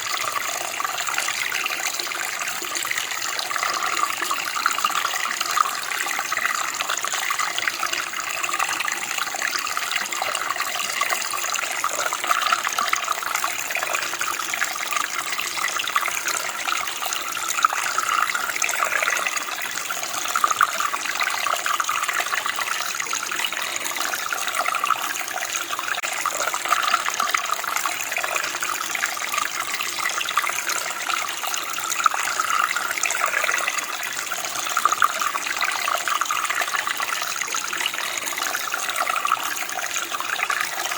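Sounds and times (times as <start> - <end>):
stream flowing and splashing: 0.0 - 40.9.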